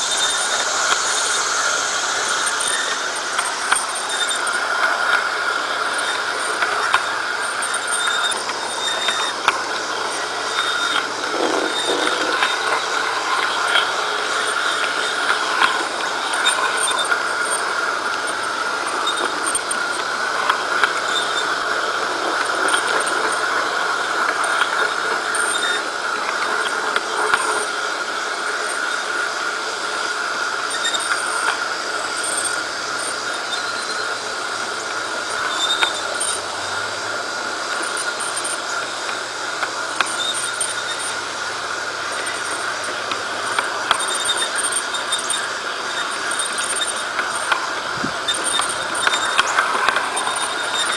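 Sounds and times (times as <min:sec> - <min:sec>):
electric motor whirring: 0:00.0 - 0:50.9
wheels clicking over rail joints: 0:00.0 - 0:50.9.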